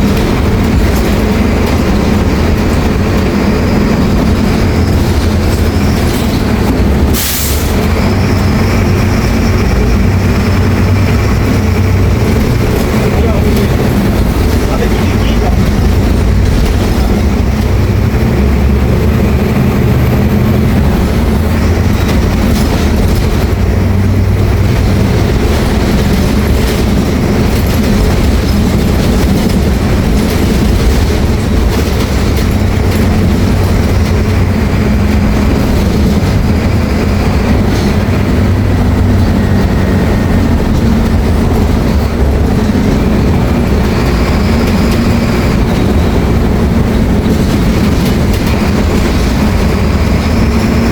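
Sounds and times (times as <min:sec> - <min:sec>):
bus diesel engine running: 0:00.0 - 0:50.9
road noise: 0:00.0 - 0:50.9.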